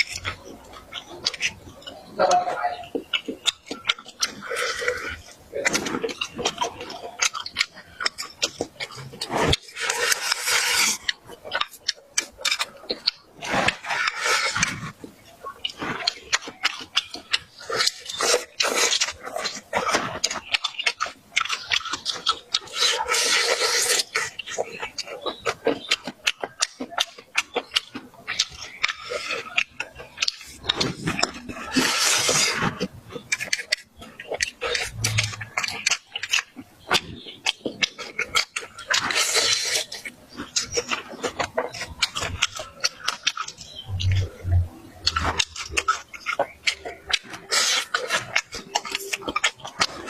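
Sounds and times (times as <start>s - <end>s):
chewing and lip-smacking: 0.0s - 50.0s
mouth clicks: 0.0s - 50.0s
noisy slurping: 0.0s - 50.0s.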